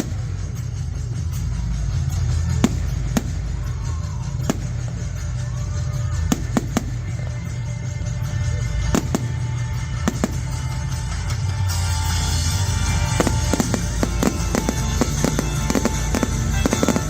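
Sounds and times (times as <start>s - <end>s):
firework bangs: 0.0s - 17.0s
loud music with heavy bass: 0.0s - 17.0s.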